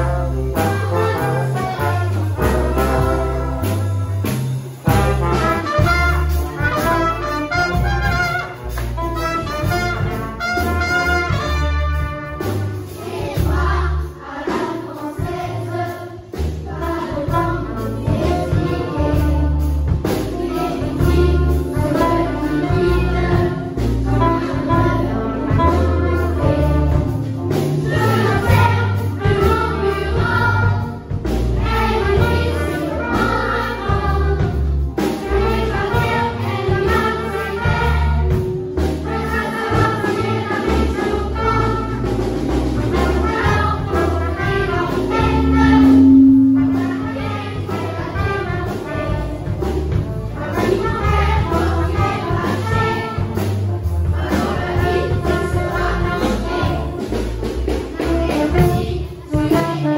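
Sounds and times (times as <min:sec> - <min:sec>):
children's choir singing: 0:00.0 - 0:59.9
jazz big band playing: 0:00.0 - 0:59.9.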